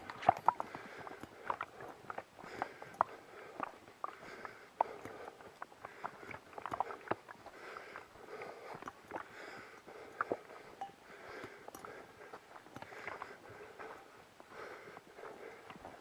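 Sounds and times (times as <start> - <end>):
footsteps on forest trail: 0.0 - 16.0
person breathing: 0.4 - 16.0.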